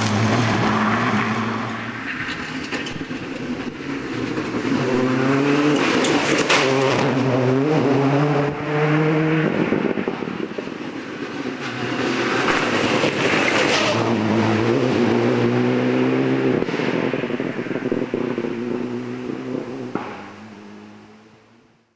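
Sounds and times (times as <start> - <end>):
rally car engine accelerating: 0.0 - 21.7.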